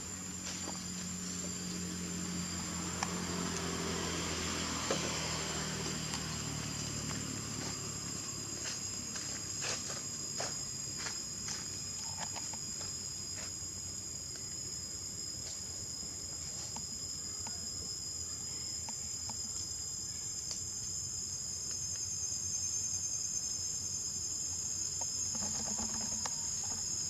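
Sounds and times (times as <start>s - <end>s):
insect chorus drone: 0.0s - 27.0s.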